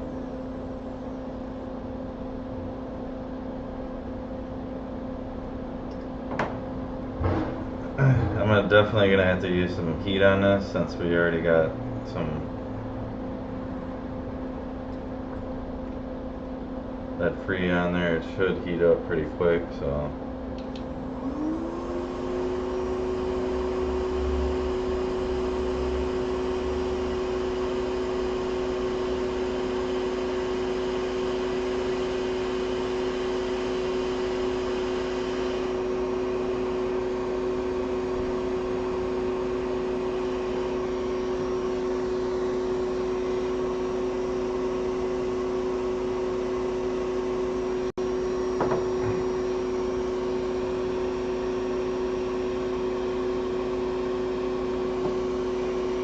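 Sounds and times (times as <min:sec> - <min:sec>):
hot air blower fan whirring: 0:00.0 - 0:56.0.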